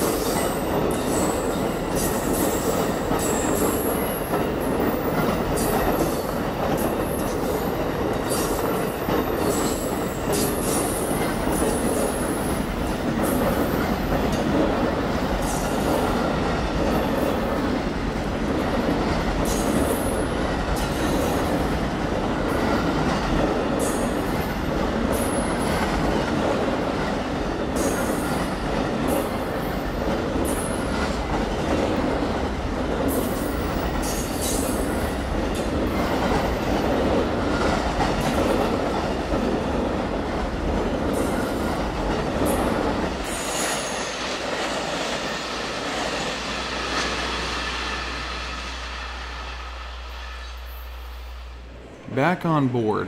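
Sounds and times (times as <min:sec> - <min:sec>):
train wheels rumbling and rattling: 0:00.0 - 0:51.4.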